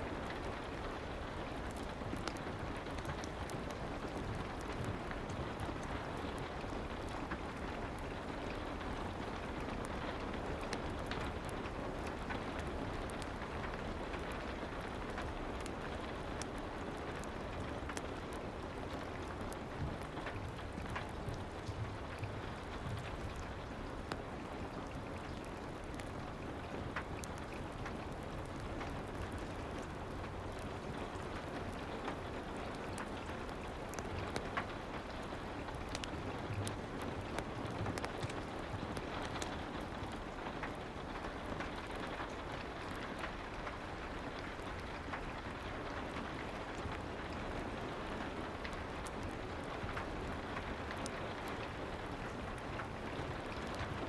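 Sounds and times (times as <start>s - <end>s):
soft rain hiss: 0.0s - 54.0s.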